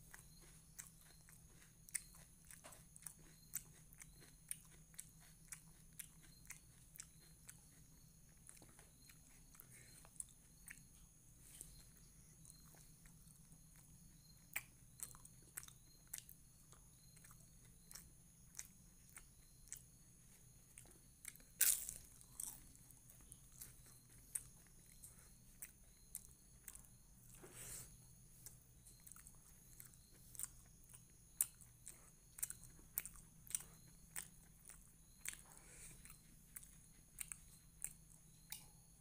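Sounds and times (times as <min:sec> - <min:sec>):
person chewing: 0:00.0 - 0:38.7
faint electrical hum: 0:00.0 - 0:39.0.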